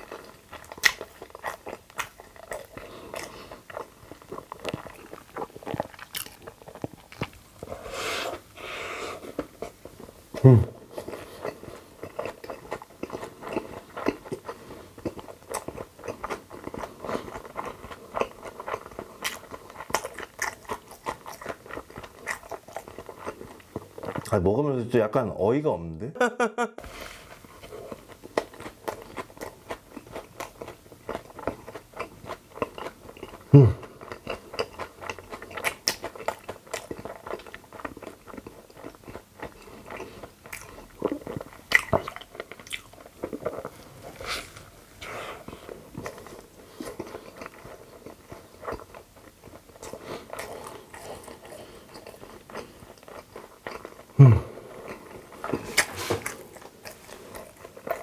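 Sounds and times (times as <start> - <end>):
close chewing with mouth sounds: 0.0 - 24.8, 26.8 - 58.0.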